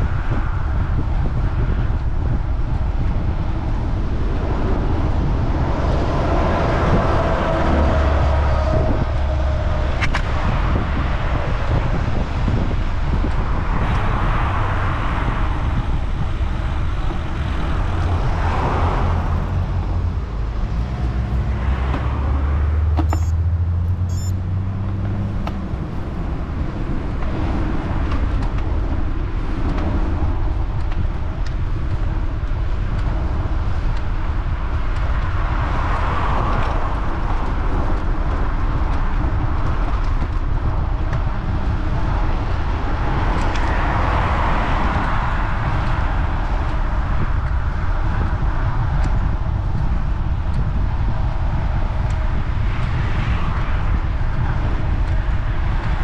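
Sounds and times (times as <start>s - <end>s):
motor vehicles passing: 0.0s - 56.0s
wind rumble on microphone: 0.0s - 56.0s.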